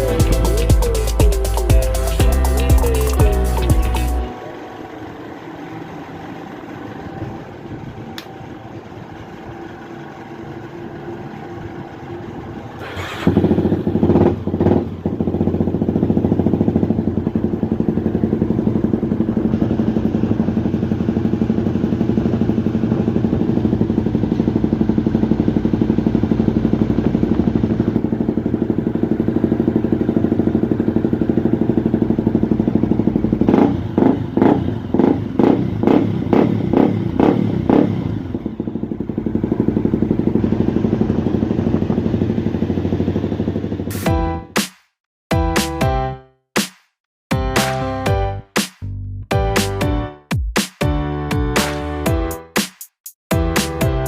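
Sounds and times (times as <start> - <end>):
motorcycle engine starting and idling: 0.0 - 44.2.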